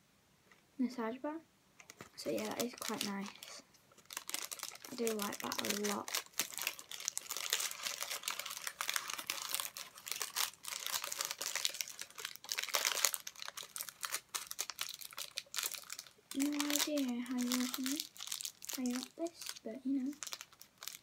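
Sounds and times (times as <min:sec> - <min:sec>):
paper wrapper crinkling: 0:01.8 - 0:21.0.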